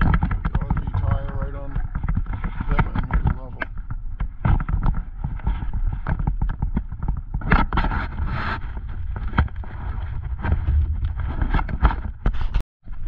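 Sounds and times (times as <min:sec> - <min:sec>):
knocks and rattles: 0:00.0 - 0:12.5.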